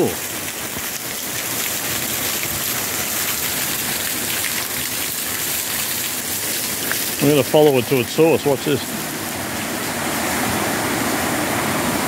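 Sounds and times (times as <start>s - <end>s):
waterfall splashing on rocks: 0.0s - 12.0s.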